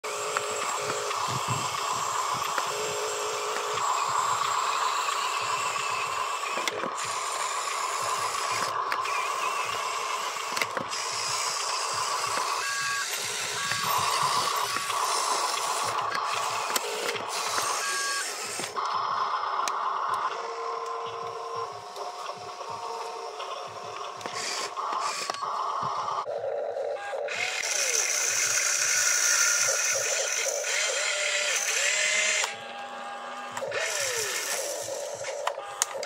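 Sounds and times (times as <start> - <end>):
toy truck motor whining: 0.0 - 36.0.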